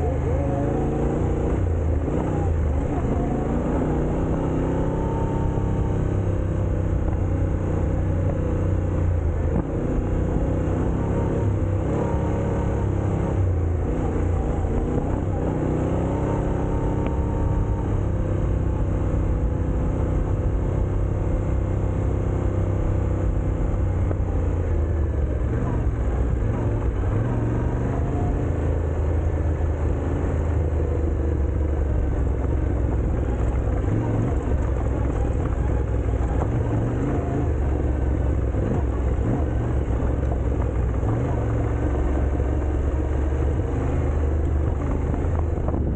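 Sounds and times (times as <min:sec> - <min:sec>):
vehicle engine running steadily: 0:00.0 - 0:45.9.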